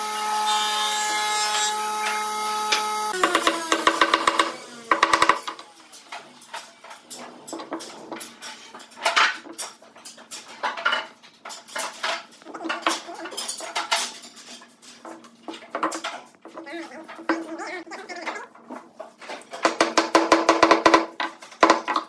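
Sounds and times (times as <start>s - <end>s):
wooden pieces and tools clattering: 1.3s - 22.0s.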